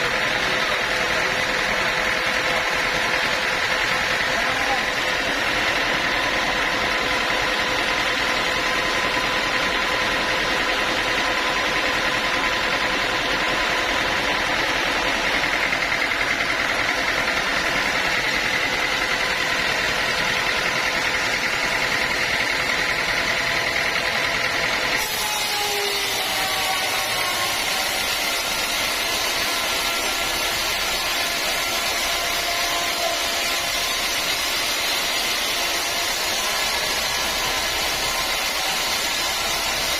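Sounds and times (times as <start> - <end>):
saw high whine: 0.0 - 39.9
sawmill engine running: 0.0 - 39.9.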